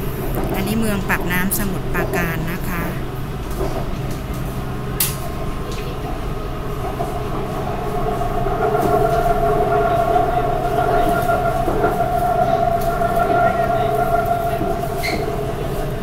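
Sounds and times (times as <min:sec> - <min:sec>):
train carriage rumble and hum: 0:00.0 - 0:16.0
whine: 0:00.0 - 0:16.0.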